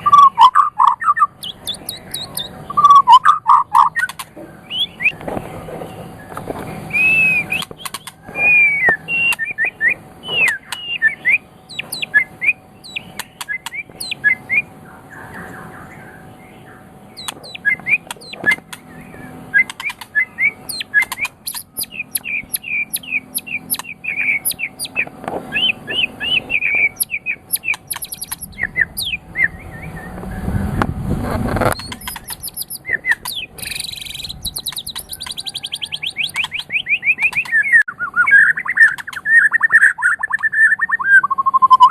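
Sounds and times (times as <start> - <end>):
bird singing whistled phrases: 0.0 - 5.2, 6.9 - 16.2, 17.2 - 30.4, 31.8 - 41.9
high buzzing bird trill: 0.0 - 30.8, 31.6 - 41.9.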